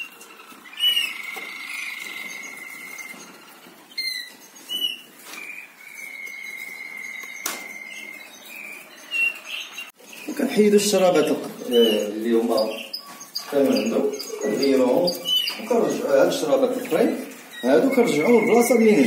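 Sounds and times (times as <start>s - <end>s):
songbirds chirping and singing: 0.0s - 19.0s.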